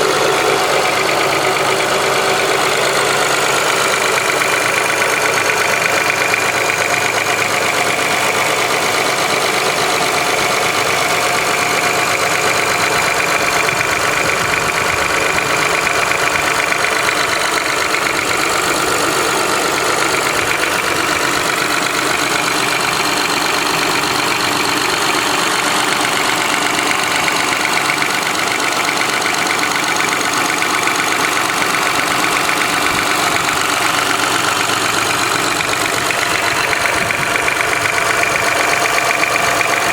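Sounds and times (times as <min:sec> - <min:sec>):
car engine idling: 0:00.0 - 0:39.9
fast even engine ticking: 0:00.0 - 0:39.9.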